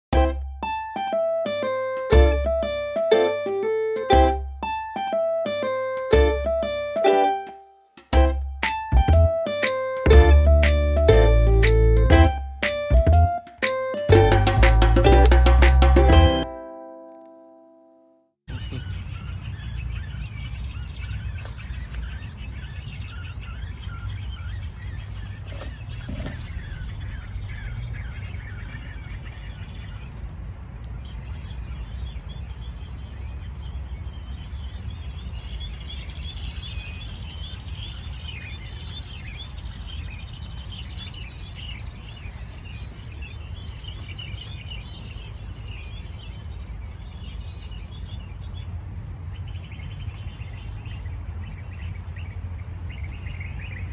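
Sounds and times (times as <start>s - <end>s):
small birds chirping: 0.2s - 16.4s, 18.5s - 53.9s.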